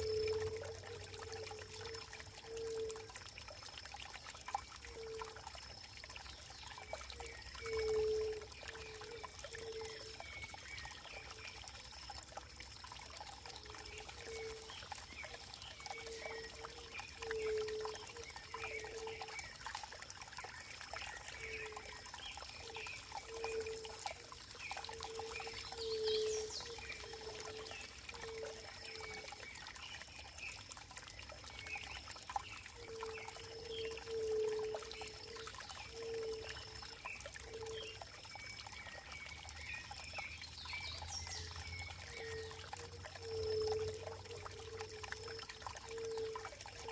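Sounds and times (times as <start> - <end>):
water trickling and pouring: 0.0 - 46.9.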